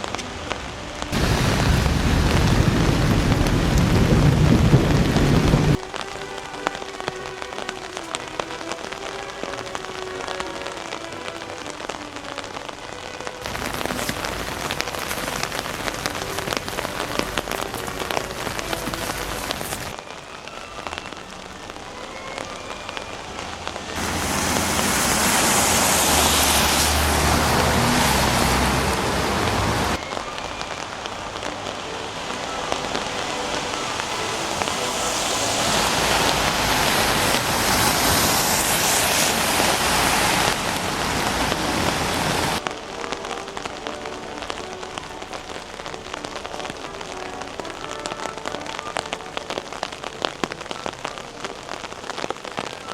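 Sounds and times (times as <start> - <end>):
rain ticking on an umbrella: 0.0 - 52.9.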